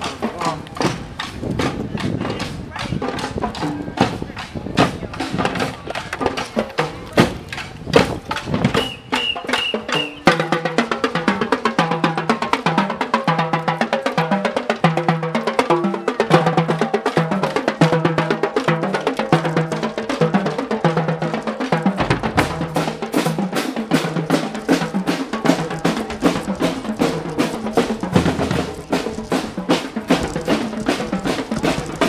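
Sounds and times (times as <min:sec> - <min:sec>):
drumline playing fast cadence: 0:00.0 - 0:32.0.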